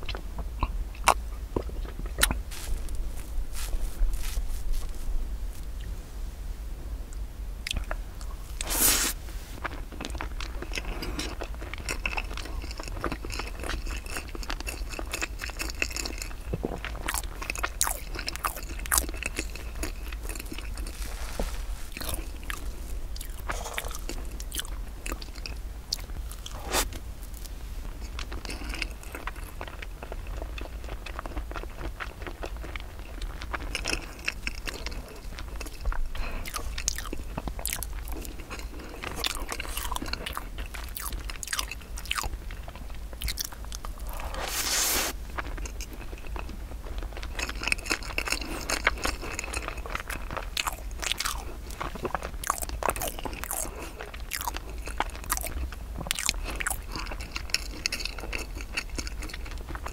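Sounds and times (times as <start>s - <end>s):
chewing and biting cake: 0.0s - 5.9s, 7.6s - 44.7s, 45.3s - 59.9s.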